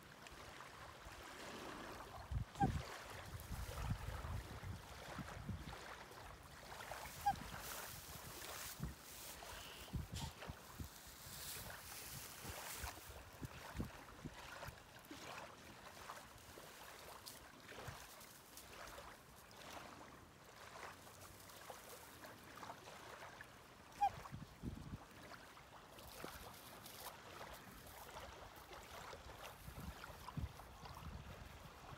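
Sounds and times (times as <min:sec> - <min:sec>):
faint wind: 0:00.0 - 0:31.9
water: 0:00.0 - 0:31.9.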